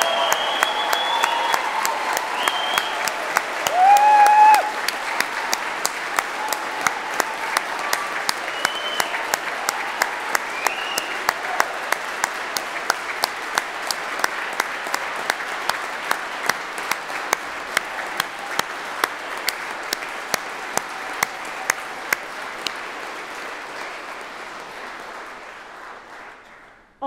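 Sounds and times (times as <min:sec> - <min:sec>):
close steady hand claps: 0:00.0 - 0:26.9
audience applauding: 0:00.0 - 0:27.0.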